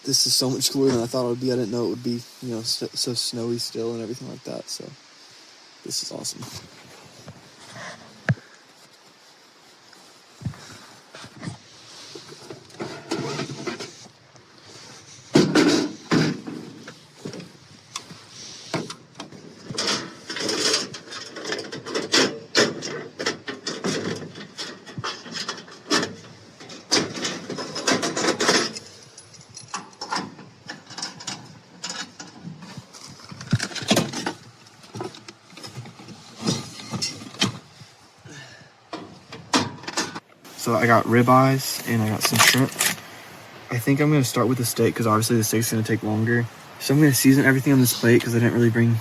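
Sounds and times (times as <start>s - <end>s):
rustling: 0.0s - 49.0s.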